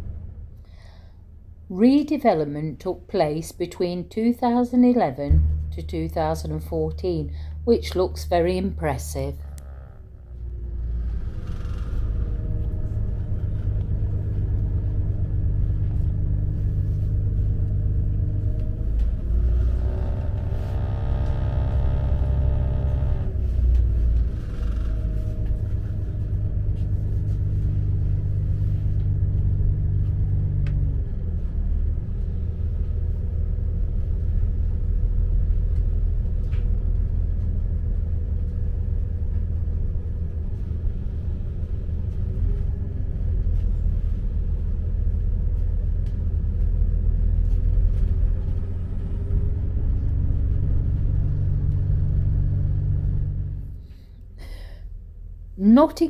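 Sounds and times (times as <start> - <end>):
diesel train running: 0.0 - 55.1.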